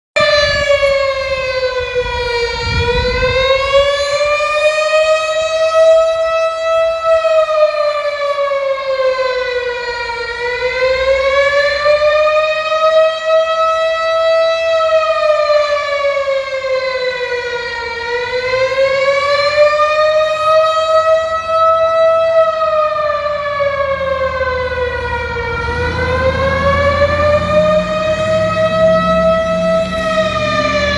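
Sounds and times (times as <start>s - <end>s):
tornado warning siren wailing: 0.2s - 30.9s.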